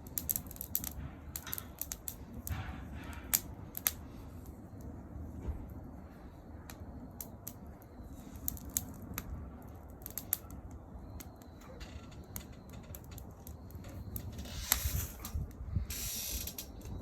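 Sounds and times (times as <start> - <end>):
burning wood popping: 0.0 - 17.0
wood fire crackling: 0.0 - 17.0.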